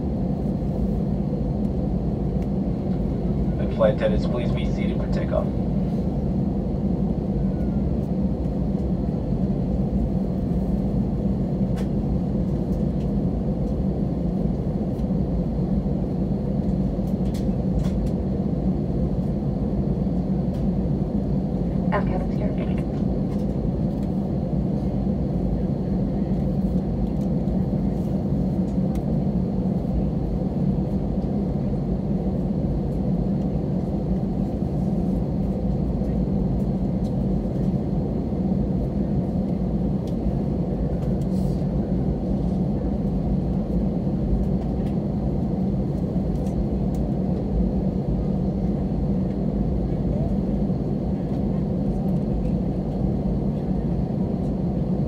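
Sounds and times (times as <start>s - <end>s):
airplane cabin rumble: 0.0s - 55.0s
faint high engine whine: 0.0s - 55.0s.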